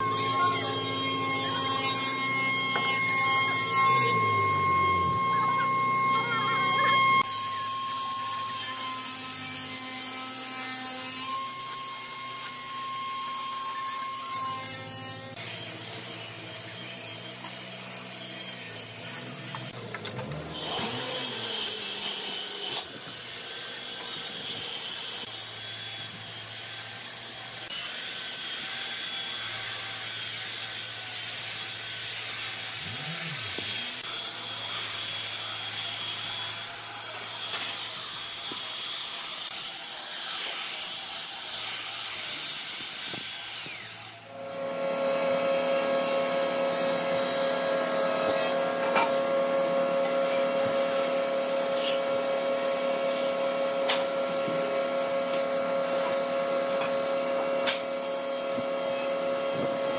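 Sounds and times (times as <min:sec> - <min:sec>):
belt sander on wood: 0:00.0 - 0:59.9
paint spray gun whine: 0:00.0 - 0:59.9.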